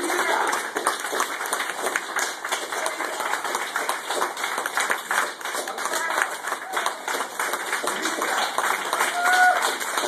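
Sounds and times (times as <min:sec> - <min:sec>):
audience clapping: 0:00.0 - 0:10.0.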